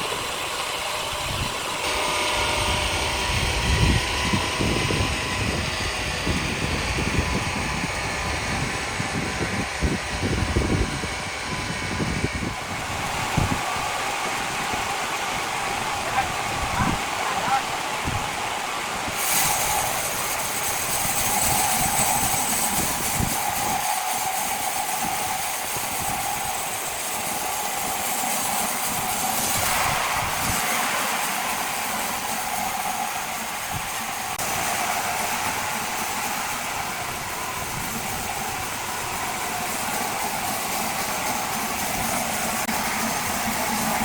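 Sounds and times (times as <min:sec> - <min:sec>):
machine engine whining: 0:00.0 - 0:44.0.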